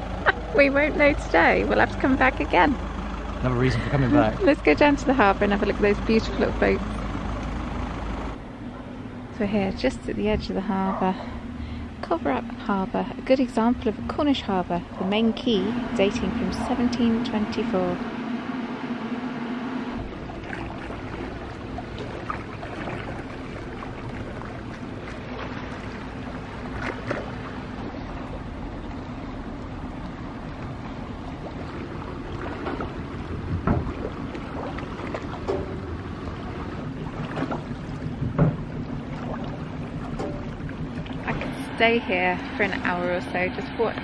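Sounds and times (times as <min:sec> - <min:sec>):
steady low hum: 0:00.0 - 0:44.0
water noise: 0:00.0 - 0:44.0
wind: 0:00.0 - 0:44.0.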